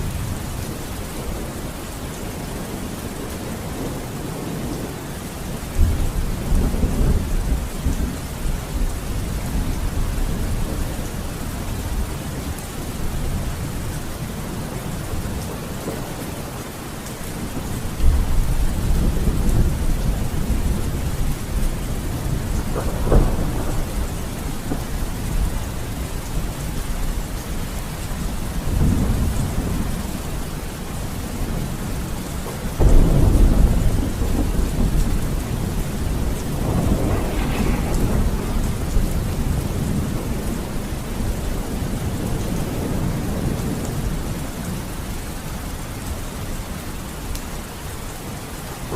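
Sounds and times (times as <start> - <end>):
thunder rumbling and cracking: 0.0 - 46.5
heavy rain: 0.0 - 48.9.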